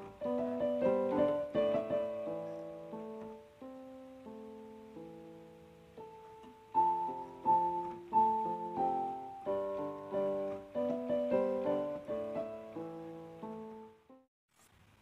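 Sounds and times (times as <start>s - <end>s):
gentle piano music: 0.0s - 14.3s.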